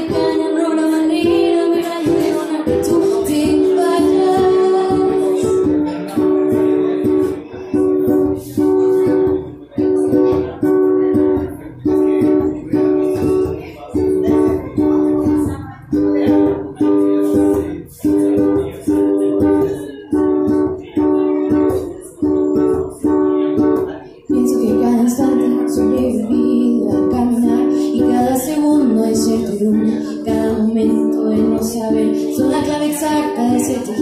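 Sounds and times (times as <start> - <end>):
ukulele strumming: 0.0 - 34.0.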